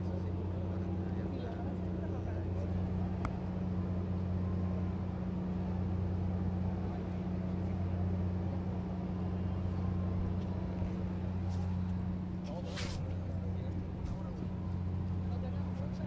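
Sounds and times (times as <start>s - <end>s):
ship engines humming: 0.0s - 16.0s.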